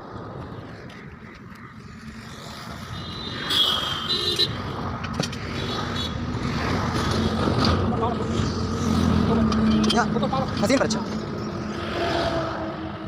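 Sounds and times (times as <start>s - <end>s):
vehicle engine rumbling: 0.2s - 13.0s.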